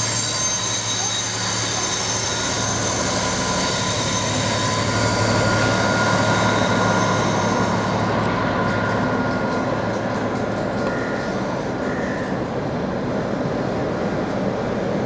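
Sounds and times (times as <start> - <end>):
freight train passing: 0.0 - 15.0
train engine hum: 0.0 - 15.0.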